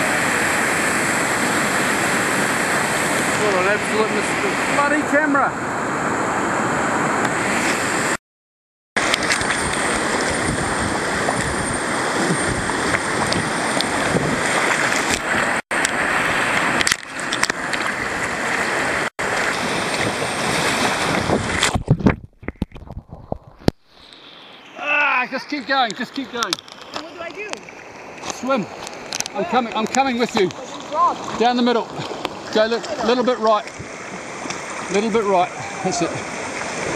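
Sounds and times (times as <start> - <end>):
whitewater rapids rushing: 0.0 - 8.2, 9.0 - 21.6, 24.6 - 36.9.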